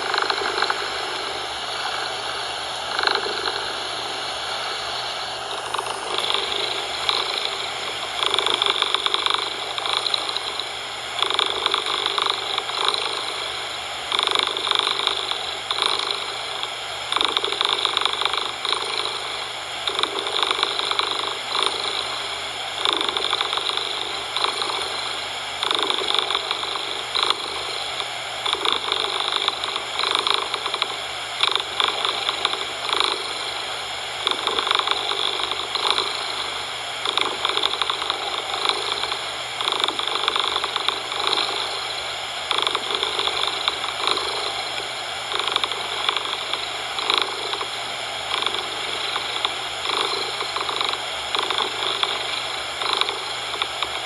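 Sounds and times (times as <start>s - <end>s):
cat purring: 0.0s - 33.6s, 34.2s - 54.0s
steady noise hiss: 0.0s - 54.0s.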